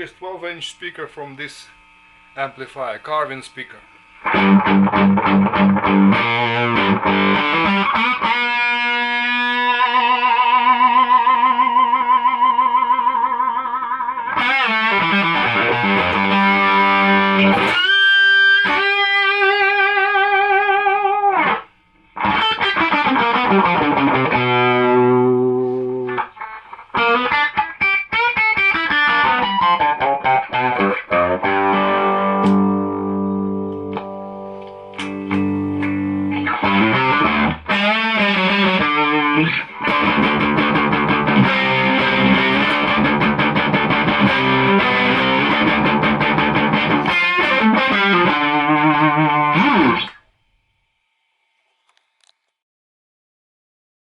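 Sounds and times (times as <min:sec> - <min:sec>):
electric guitar through amplifier: 0:01.5 - 0:50.4.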